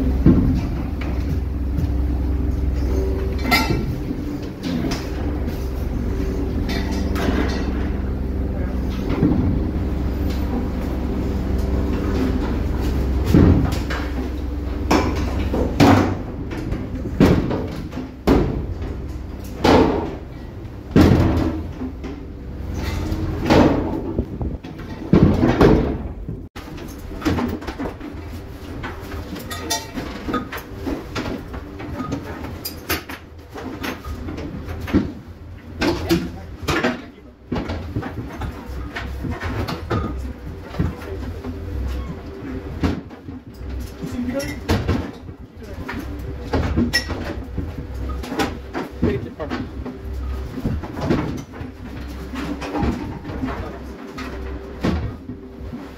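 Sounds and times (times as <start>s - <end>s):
boat engine humming: 0.0s - 27.2s, 28.0s - 55.9s.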